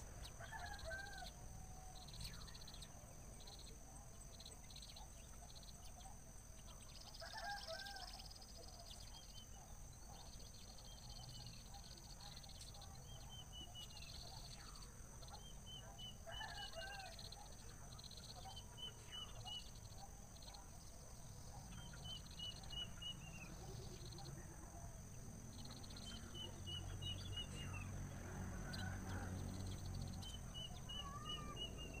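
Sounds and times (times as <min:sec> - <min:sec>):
bird chirping: 0:00.0 - 0:32.0.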